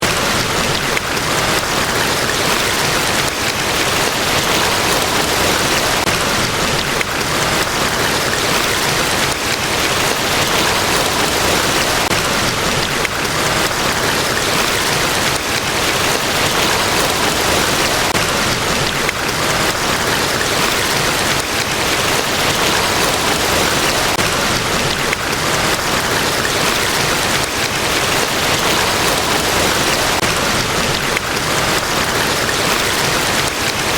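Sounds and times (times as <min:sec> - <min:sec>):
large waterfall rushing: 0:00.0 - 0:33.9.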